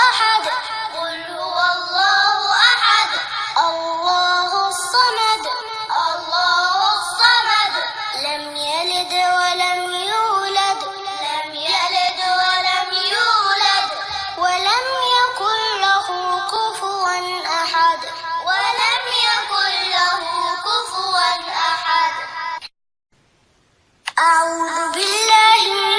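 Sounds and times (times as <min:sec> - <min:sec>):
child-like voice singing: 0:00.0 - 0:22.4, 0:24.1 - 0:25.9.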